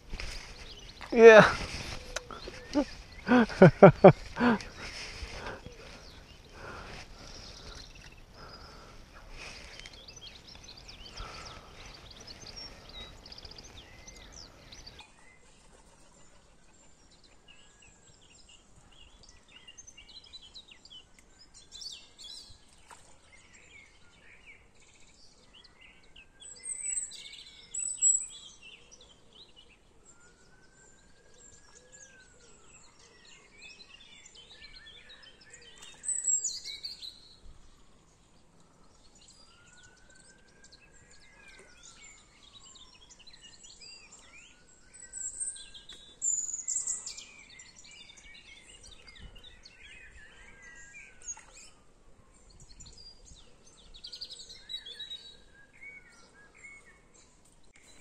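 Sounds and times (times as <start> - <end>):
birds singing and chirping: 0.0 - 58.0.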